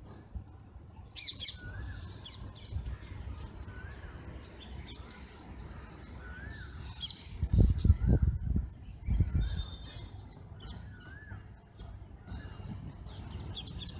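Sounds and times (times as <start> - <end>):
bird chirps: 0.0 - 13.9.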